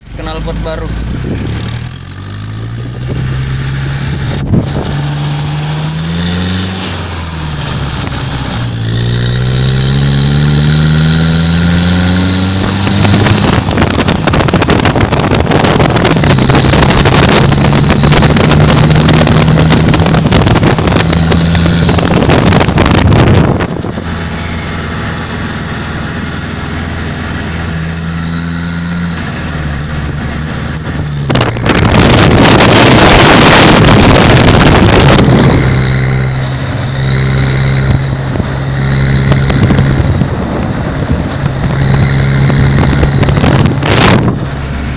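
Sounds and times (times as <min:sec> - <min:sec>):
vehicle engine revving: 0:00.0 - 0:44.9.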